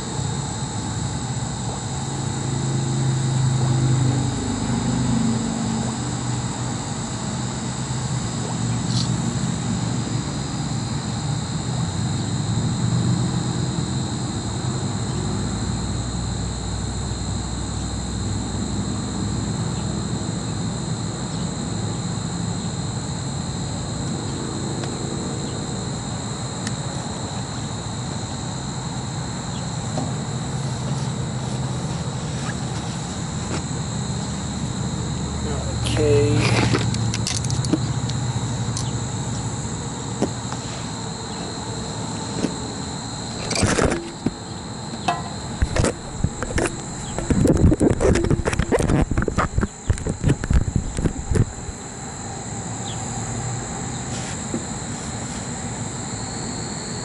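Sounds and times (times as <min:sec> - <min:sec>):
condensing unit hum and rumble: 0:00.0 - 0:57.0
high-pitched whine: 0:00.0 - 0:57.0.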